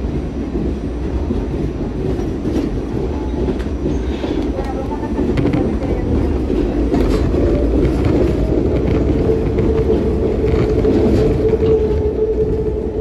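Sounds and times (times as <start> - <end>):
subway train wheels rumbling on track: 0.0 - 13.0.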